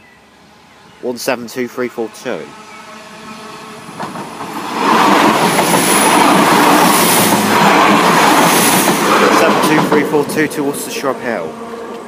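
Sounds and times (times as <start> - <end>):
diesel train passing: 0.0 - 12.0.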